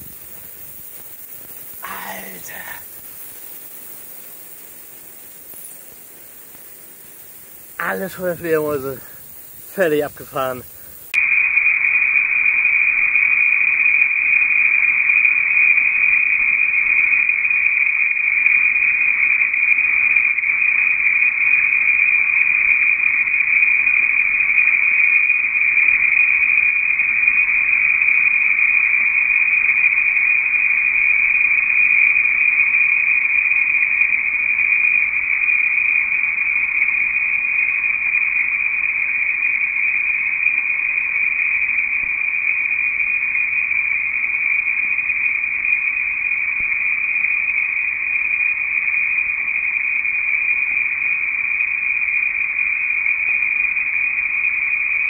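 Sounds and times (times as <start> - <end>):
shrill insect chorus: 0.0 - 55.0.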